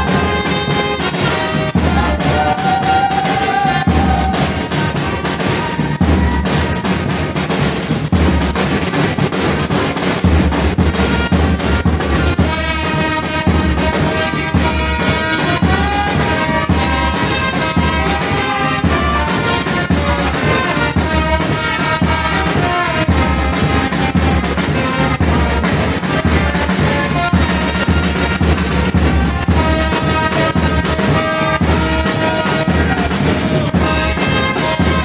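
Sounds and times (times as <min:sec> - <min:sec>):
drum beat: 0:00.0 - 0:35.0
trumpets and trombones: 0:00.0 - 0:35.0.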